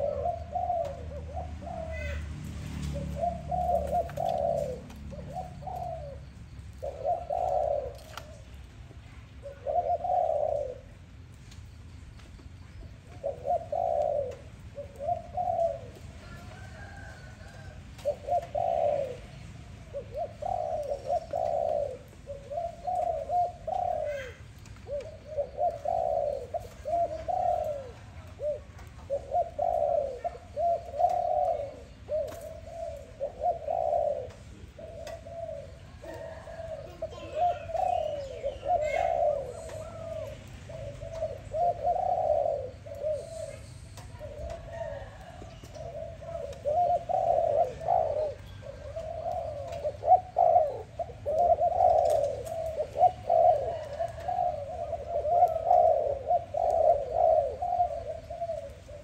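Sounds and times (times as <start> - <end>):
dove cooing: 0.0 - 11.4, 12.0 - 59.0.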